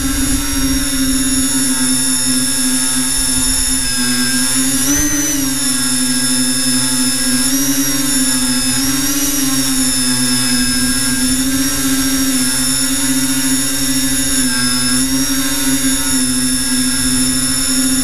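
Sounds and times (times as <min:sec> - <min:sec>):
drone motors and propellers whining: 0:00.0 - 0:18.0.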